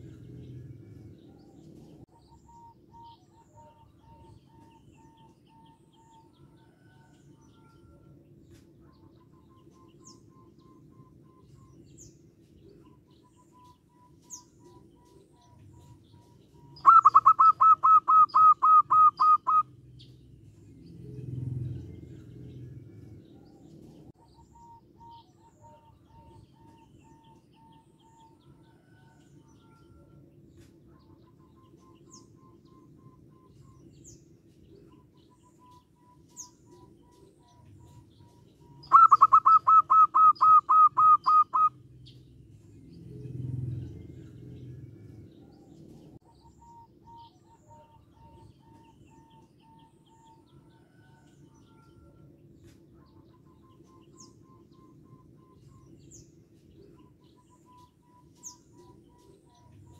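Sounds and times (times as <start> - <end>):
small birds chirping: 0.0 - 59.9
dove calling clipped notes: 1.0 - 20.3, 23.2 - 42.3, 45.0 - 59.9.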